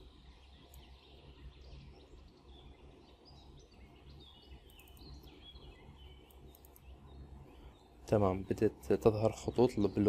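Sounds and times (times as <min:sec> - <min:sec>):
faint bird chirps: 0:00.0 - 0:10.0
low steady hum: 0:00.0 - 0:10.0.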